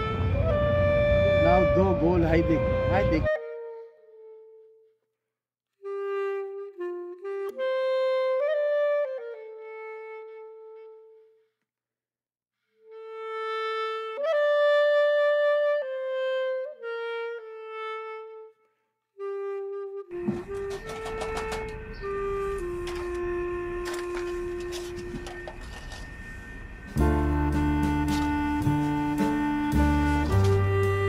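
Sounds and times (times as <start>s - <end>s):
slow wind instrument melody: 0.0s - 5.1s, 5.8s - 11.5s, 12.7s - 31.0s.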